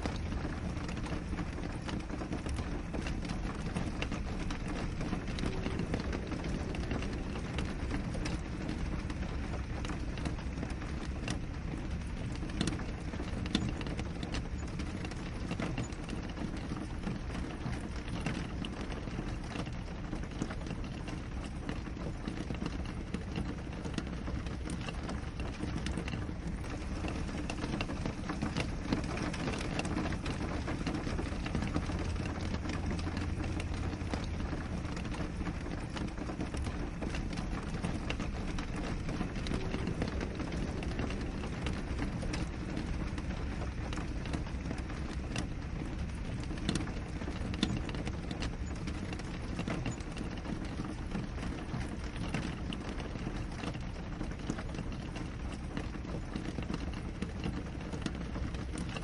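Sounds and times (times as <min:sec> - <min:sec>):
rain hissing: 0:00.0 - 0:58.8
raindrops tapping on glass: 0:00.0 - 0:59.0.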